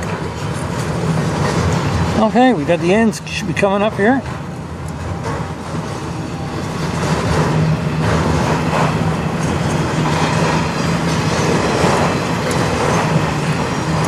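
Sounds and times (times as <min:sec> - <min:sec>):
freight train wheels clacking: 0:00.0 - 0:14.0.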